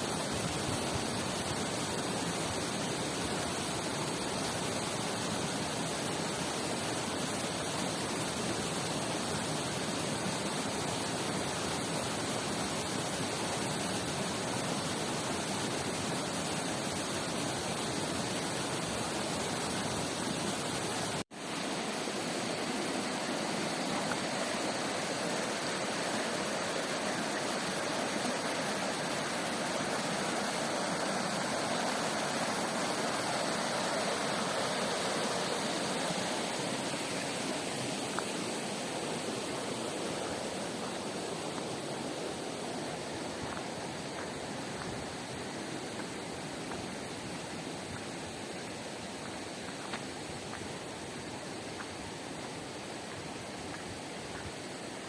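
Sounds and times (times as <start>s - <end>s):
waterfall and river rushing: 0.0s - 55.0s.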